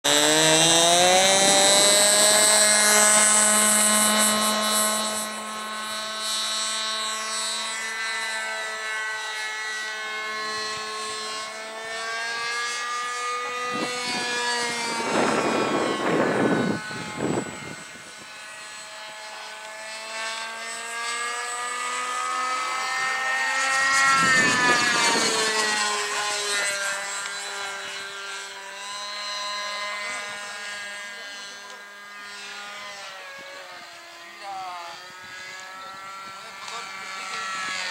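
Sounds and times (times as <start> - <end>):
model airplane engine: 0.0 - 37.9.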